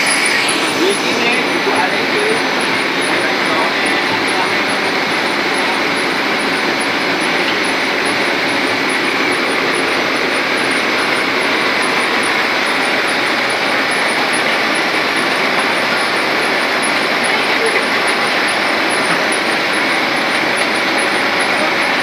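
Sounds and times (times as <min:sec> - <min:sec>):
printing machine running: 0:00.0 - 0:22.0.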